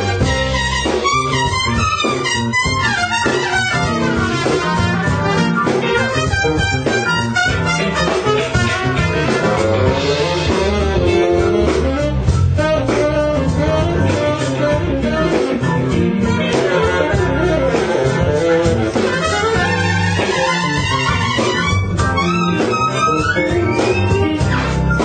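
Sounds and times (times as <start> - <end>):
blues band playing: 0.0 - 25.0
electric guitar: 0.0 - 25.0.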